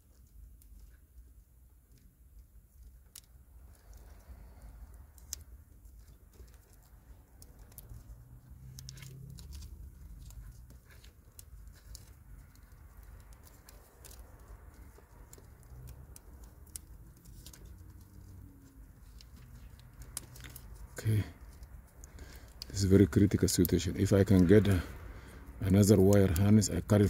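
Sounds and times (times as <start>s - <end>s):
small clicks and rustles of wires: 0.0s - 27.0s.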